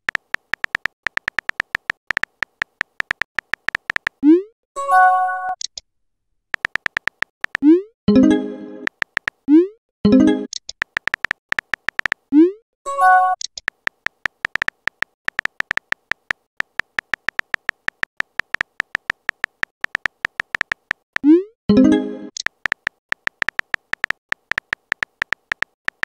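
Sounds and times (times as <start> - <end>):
keyboard typing clicks: 0.0 - 4.3, 6.6 - 7.8, 8.8 - 9.5, 10.1 - 12.4, 13.4 - 26.0.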